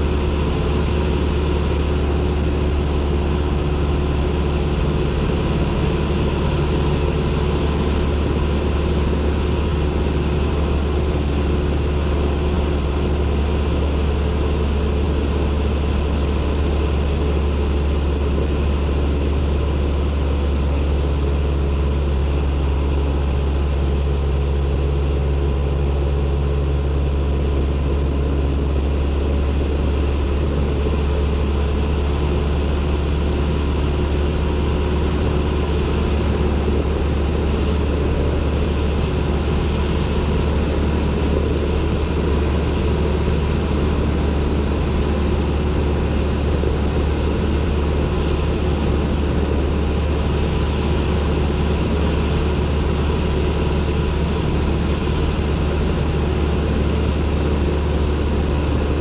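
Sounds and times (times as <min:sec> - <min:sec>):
airplane engine droning: 0:00.0 - 0:59.0.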